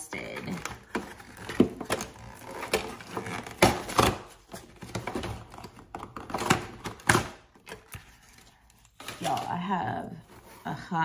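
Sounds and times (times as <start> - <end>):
packaging knocks and rustles: 0.3 - 9.6.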